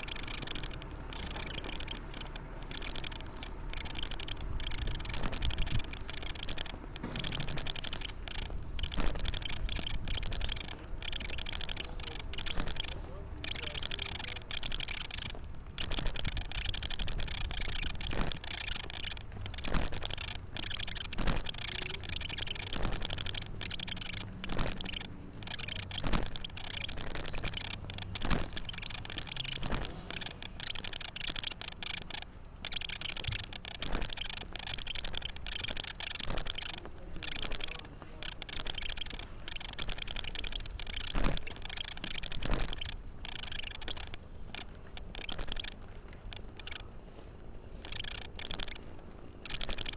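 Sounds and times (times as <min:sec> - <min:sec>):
camera rattling and knocking: 0:00.0 - 0:46.8, 0:47.7 - 0:49.9.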